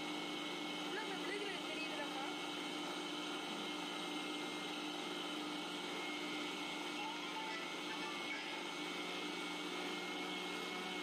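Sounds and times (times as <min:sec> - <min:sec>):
mixer grinder whirring: 0:00.0 - 0:11.0.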